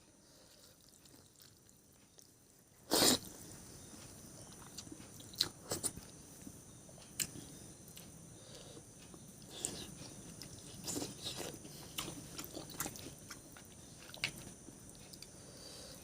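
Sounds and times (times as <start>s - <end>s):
person chewing food: 0.2s - 3.3s, 4.0s - 16.0s.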